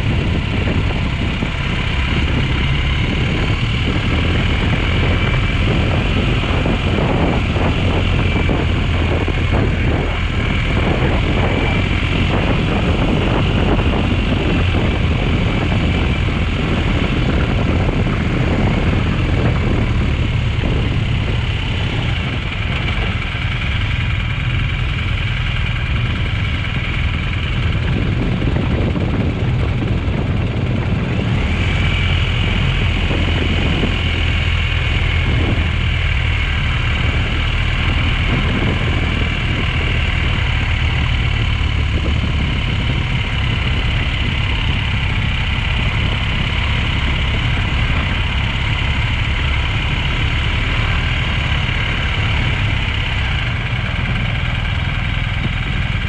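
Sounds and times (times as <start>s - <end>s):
motorcycle engine running: 0.0s - 56.0s
tyres on gravel road: 0.0s - 56.0s.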